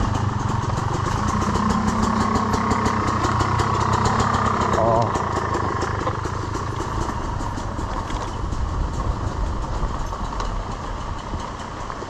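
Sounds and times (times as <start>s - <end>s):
dirt bike engine rumble: 0.0s - 12.0s.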